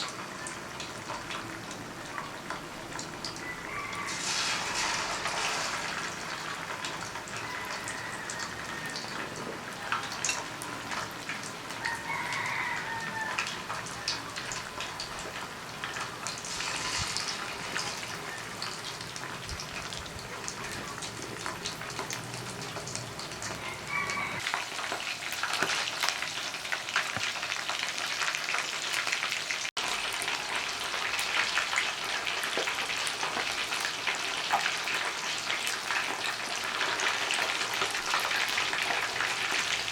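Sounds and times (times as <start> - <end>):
chicken wings sizzling in a pan: 0.0 - 39.9.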